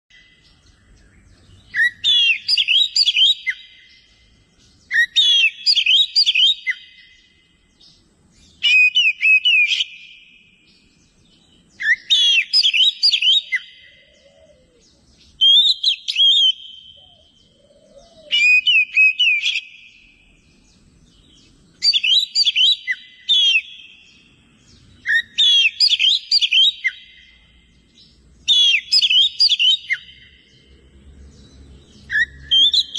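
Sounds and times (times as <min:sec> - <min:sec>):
bird singing whistled phrases: 0:00.1 - 0:27.4, 0:28.0 - 0:30.6, 0:31.9 - 0:32.9.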